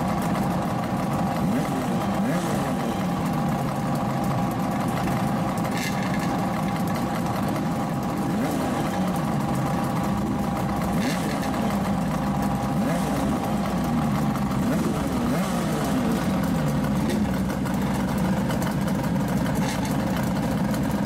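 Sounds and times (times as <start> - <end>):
motorcycle engines idling: 0.0 - 21.0.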